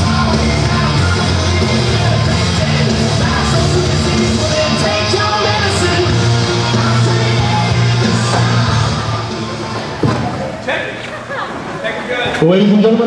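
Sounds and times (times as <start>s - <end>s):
loud rock music with singer: 0.0s - 10.6s.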